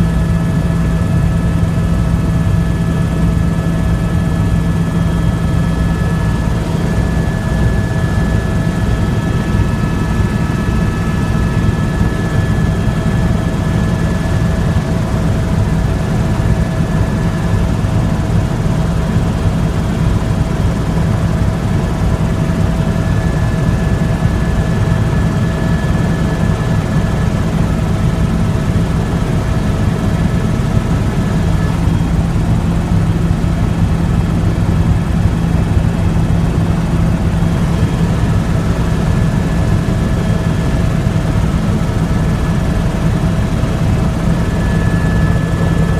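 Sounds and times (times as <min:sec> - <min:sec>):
helicopter rotor and turbine: 0:00.0 - 0:45.9.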